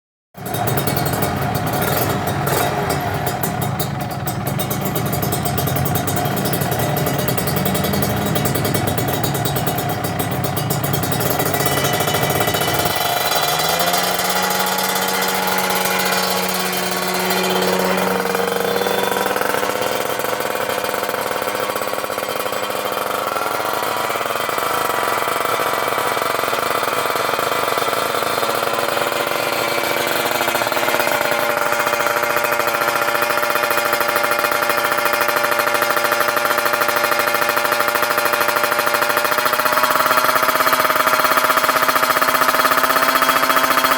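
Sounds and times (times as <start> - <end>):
motorcycle engine revving: 0.4 - 43.9.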